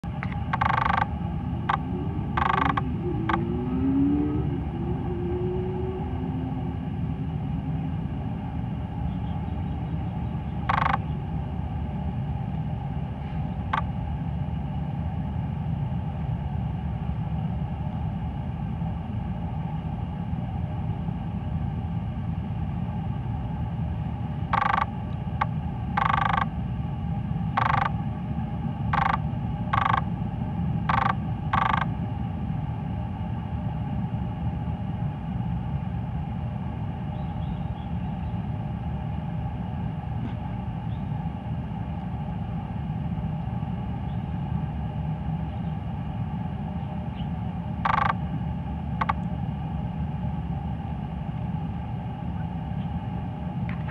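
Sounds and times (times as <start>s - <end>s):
low rumble of engines: 0.0s - 53.9s.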